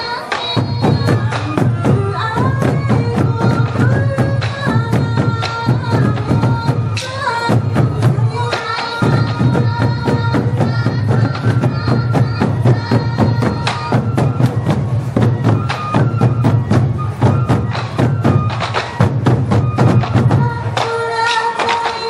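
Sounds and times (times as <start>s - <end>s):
drums and fast percussion: 0.0s - 22.0s.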